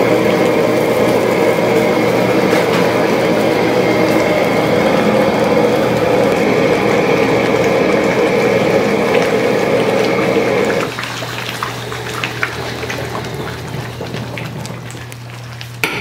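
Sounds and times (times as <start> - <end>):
steady low hum: 0.0 - 16.0
wok burner and sauce sizzling: 0.0 - 16.0.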